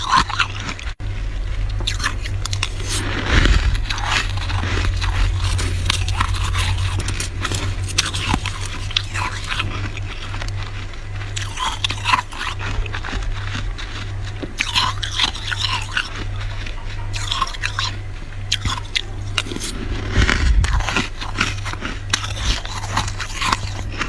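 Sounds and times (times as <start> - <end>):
crunching and chewing frost: 0.0 - 24.0
steady low hum: 0.0 - 24.0.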